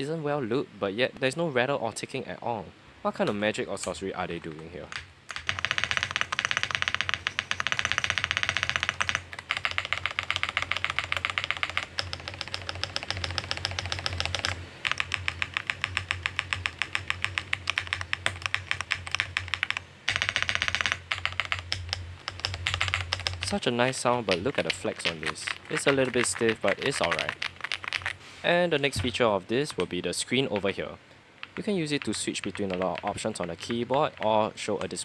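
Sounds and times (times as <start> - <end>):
fast typing on mechanical keyboard: 4.4 - 30.8, 31.4 - 35.0.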